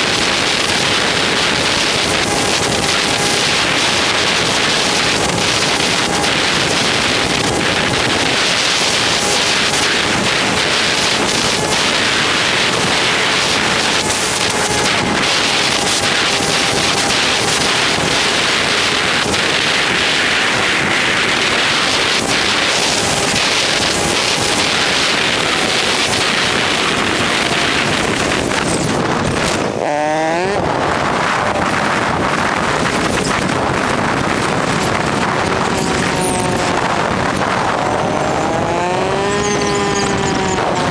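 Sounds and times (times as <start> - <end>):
motorcycle engine: 0.0 - 40.9
wind rushing over camera: 0.0 - 40.9.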